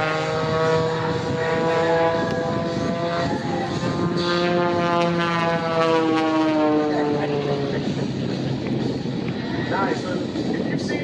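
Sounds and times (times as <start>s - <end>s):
propeller aircraft drone: 0.0s - 11.0s.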